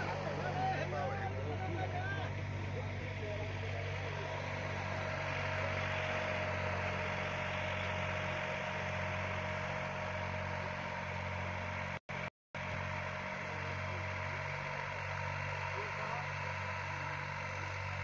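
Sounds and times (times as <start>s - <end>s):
diesel tractor engine droning: 0.0s - 18.0s.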